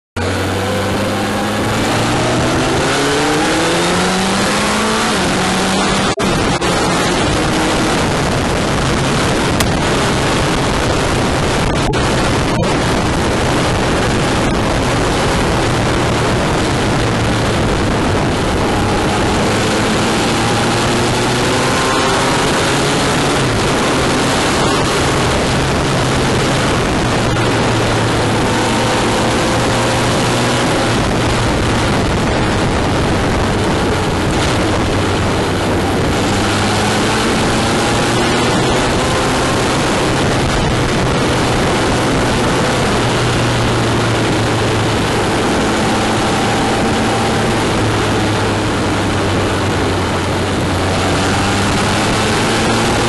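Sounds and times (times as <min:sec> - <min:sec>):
motorcycle engine revving: 0:00.2 - 0:53.0
wind and tyre noise: 0:00.2 - 0:53.0.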